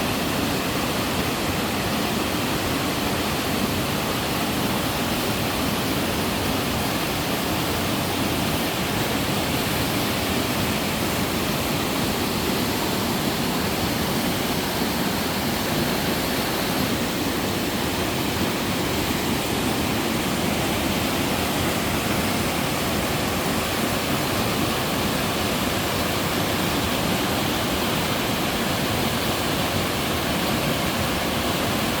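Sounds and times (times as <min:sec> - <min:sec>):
waterfall pouring over rock: 0:00.0 - 0:32.0.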